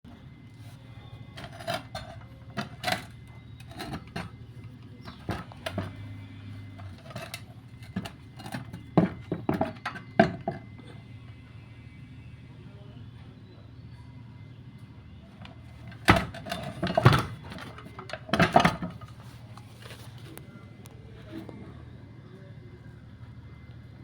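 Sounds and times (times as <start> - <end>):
low steady hum: 0.1 - 24.0.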